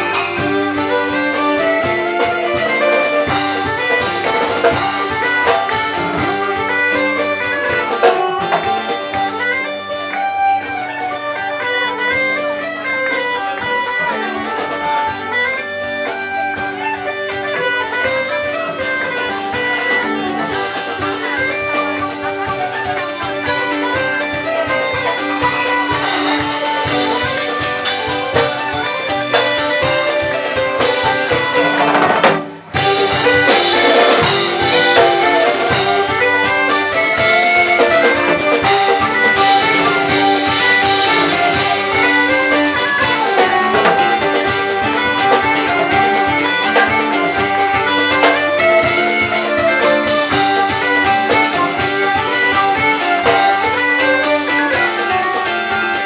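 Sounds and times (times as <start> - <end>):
instrumental music with plucked strings: 0.0 - 56.0.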